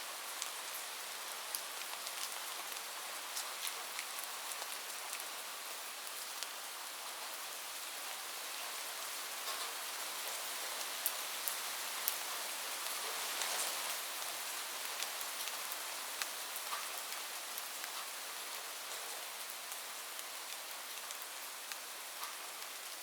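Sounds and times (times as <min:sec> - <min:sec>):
rain falling on a roof: 0:00.0 - 0:23.0.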